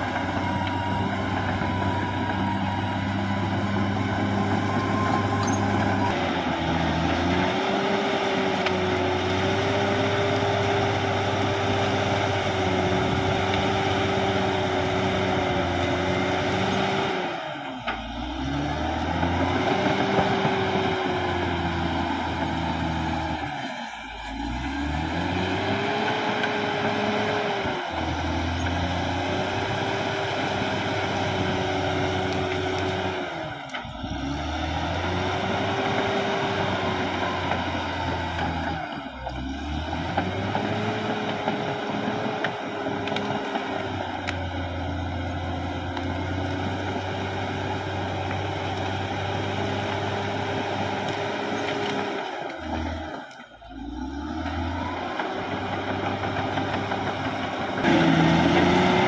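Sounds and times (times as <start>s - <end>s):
bulldozer diesel engine whining: 0.0s - 59.0s.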